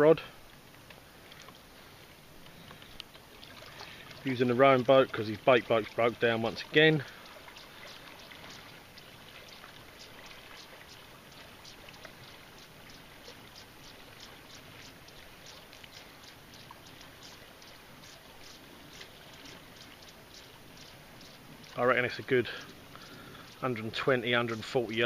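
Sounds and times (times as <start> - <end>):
lake water lapping: 0.0 - 25.0
low steady hiss: 0.0 - 25.0.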